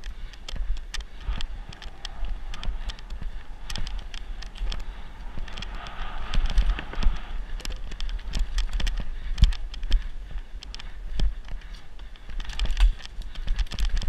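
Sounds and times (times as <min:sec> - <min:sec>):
bike clattering over wooden planks: 0:00.0 - 0:14.0
bike rattling and clicking: 0:00.0 - 0:14.0
tyre noise: 0:00.0 - 0:14.0
wind buffeting microphone: 0:00.0 - 0:14.0.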